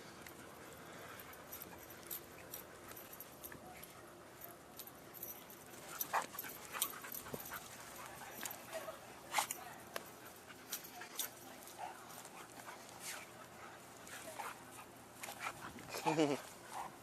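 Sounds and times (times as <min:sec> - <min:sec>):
rustles: 0:00.0 - 0:17.0.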